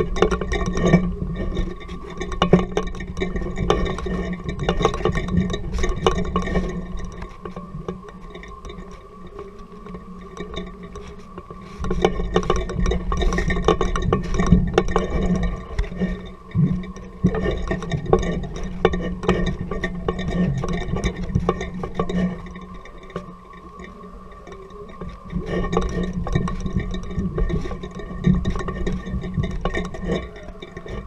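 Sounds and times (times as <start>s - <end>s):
camera rig rattling and clicking: 0.0s - 31.0s
steady hum: 0.0s - 31.0s.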